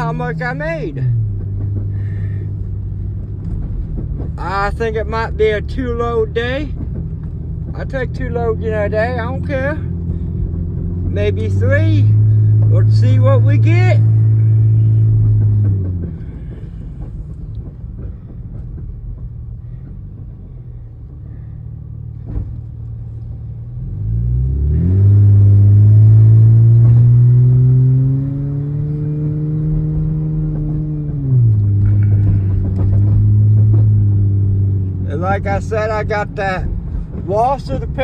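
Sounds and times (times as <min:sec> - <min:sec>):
vehicle engine revving: 0:00.0 - 0:17.4, 0:21.3 - 0:38.0.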